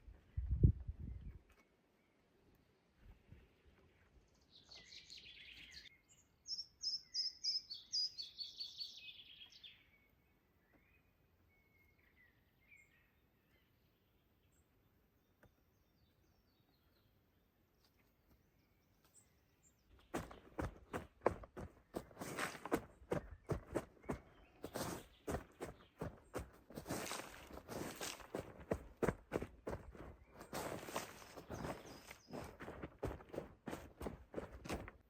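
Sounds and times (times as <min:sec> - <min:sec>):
songbird singing: 0:03.7 - 0:35.0.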